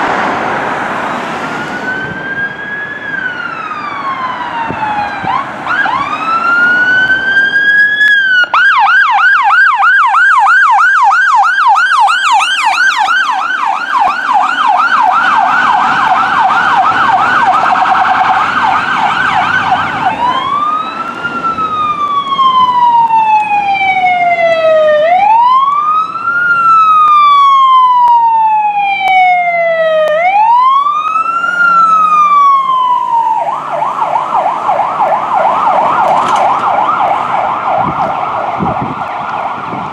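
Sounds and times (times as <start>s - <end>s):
fire truck sirens: 0.0s - 39.9s
low engine and road rumble: 0.0s - 39.9s.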